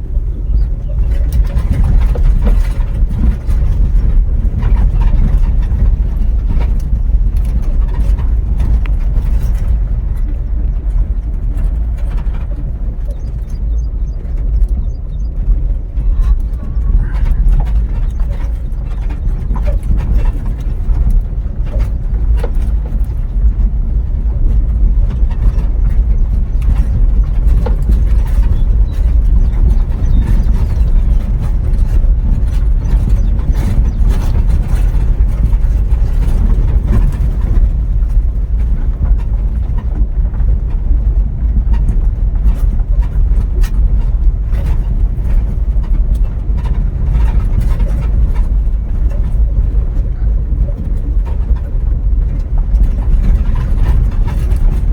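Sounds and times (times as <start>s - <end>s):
faint clicks and rattles: 0.0s - 54.9s
road and wind rumble: 0.0s - 54.9s.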